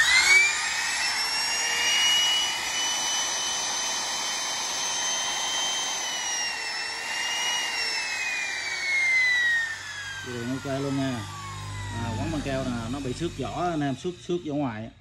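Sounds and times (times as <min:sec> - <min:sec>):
router motor whining: 0:00.0 - 0:14.9.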